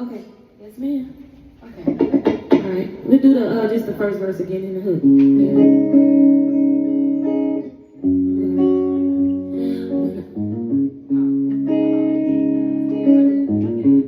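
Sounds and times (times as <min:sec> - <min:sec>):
live band instrumental: 0:01.6 - 0:14.0.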